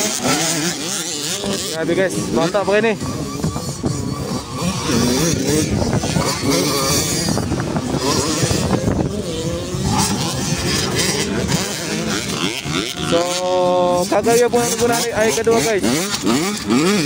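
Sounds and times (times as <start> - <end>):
motocross bikes revving past: 0.0 - 17.0.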